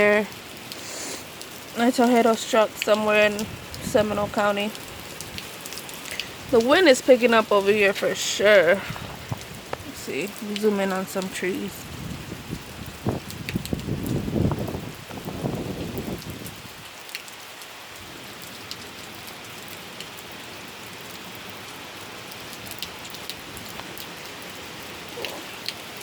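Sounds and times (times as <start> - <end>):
heavy rain falling: 0.0 - 26.0
raindrops ticking on surfaces: 0.0 - 26.0.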